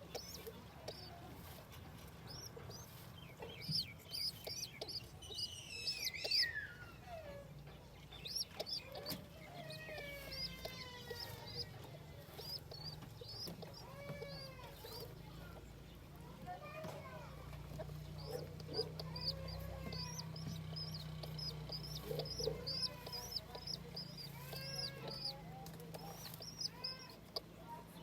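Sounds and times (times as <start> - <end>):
baby chicks peeping: 0.0 - 28.0.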